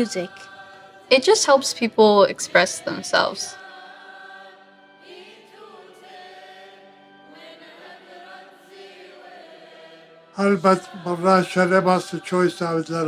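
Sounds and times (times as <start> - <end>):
soft choir-like background music: 0.0 - 13.0.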